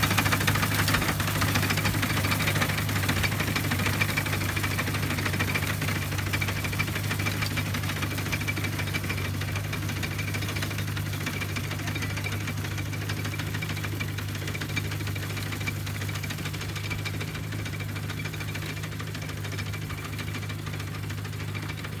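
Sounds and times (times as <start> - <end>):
reaper-binder ticking and clatter: 0.0 - 22.0
tractor engine droning: 0.0 - 22.0.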